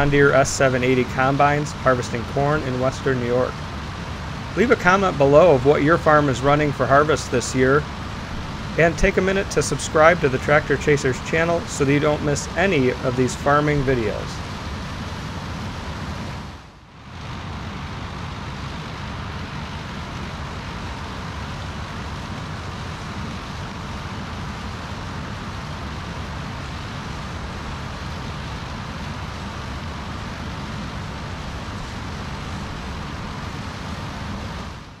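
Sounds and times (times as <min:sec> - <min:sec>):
harvesting machinery running: 0:00.0 - 0:35.0.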